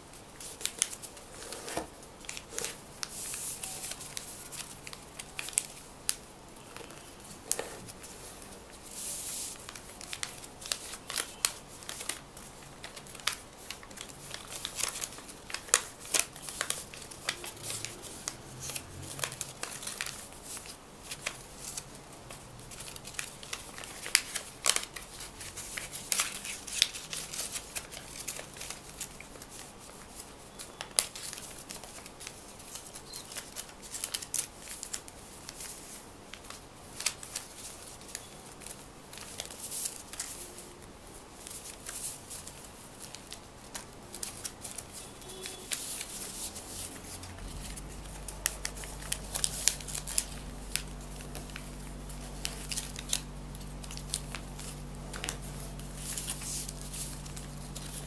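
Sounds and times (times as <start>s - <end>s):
paper being folded and creased: 0.4s - 5.8s, 6.6s - 58.0s.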